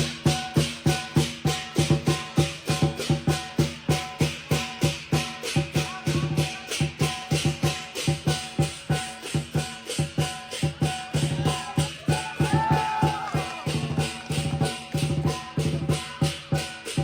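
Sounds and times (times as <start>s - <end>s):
cymbals clashing: 0.0s - 17.0s
deep drum beats: 0.0s - 17.0s.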